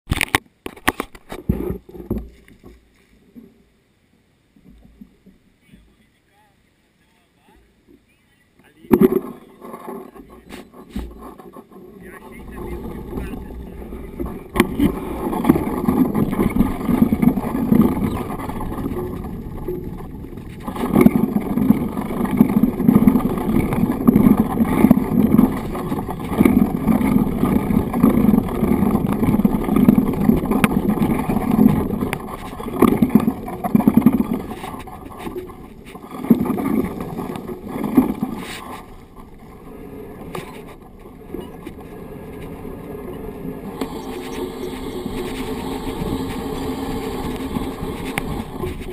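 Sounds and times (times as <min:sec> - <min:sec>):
rattling vibration: 0:08.9 - 0:48.9
bike tyres rumbling on dirt: 0:09.0 - 0:48.9.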